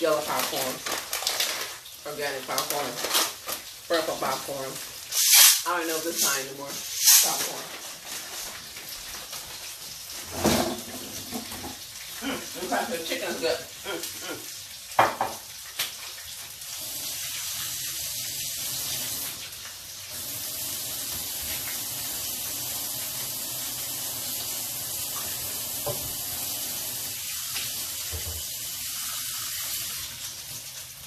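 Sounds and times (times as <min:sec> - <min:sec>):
tap water running into sink: 0:00.0 - 0:31.0.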